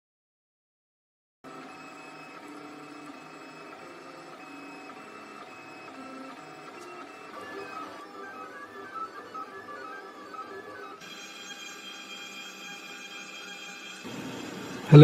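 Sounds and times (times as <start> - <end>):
printer stepper motors whining: 1.5 - 15.0.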